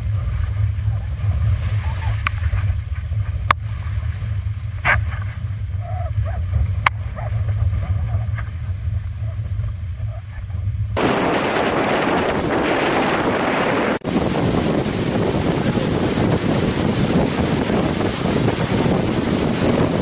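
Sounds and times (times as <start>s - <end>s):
wind buffeting camera: 0.0s - 20.0s.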